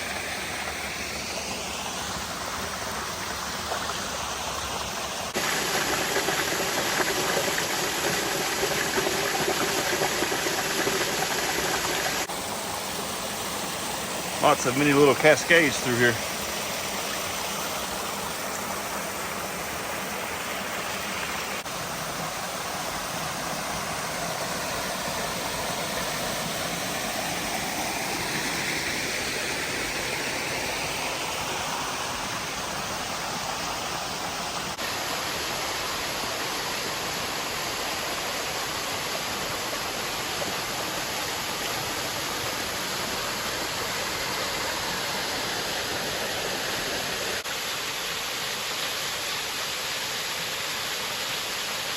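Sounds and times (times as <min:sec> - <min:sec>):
creek rushing water: 0:00.0 - 0:51.9.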